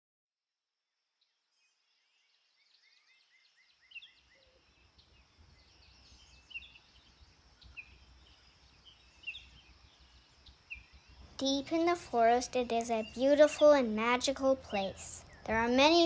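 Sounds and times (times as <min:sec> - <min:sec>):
birds chirping: 0:01.6 - 0:16.0.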